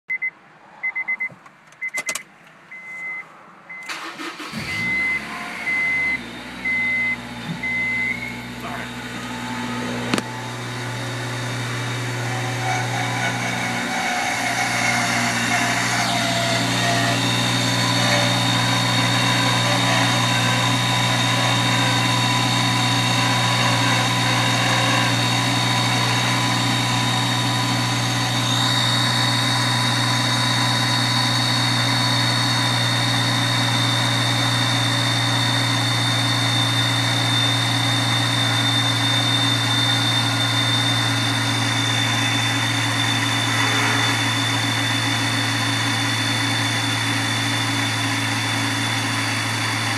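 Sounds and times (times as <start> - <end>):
car engine idling with whine: 2.7 - 49.9.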